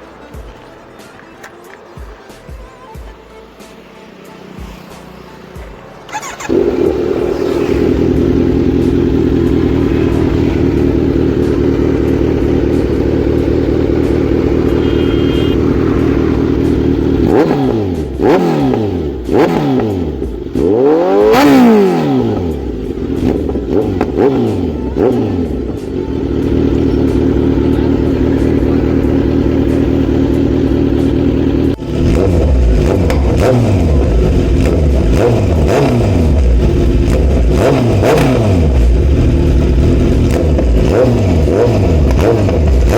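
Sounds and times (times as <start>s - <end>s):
motorcycle engine idling and revving: 1.7s - 42.9s.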